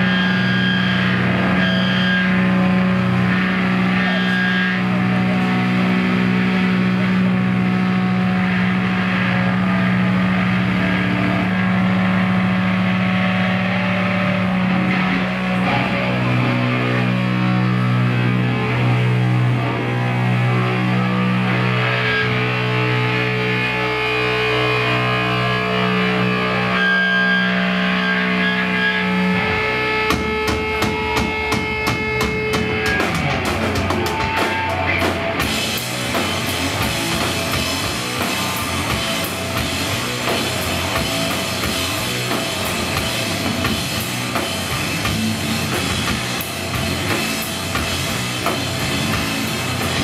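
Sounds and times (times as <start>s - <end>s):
bass amplifier drone: 0.0s - 50.0s
distorted guitar drone: 0.0s - 50.0s.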